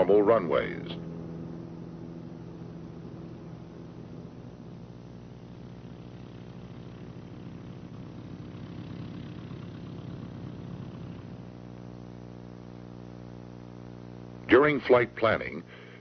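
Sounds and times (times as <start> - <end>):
airplane piston engine drone: 0.0 - 12.8, 14.5 - 16.0.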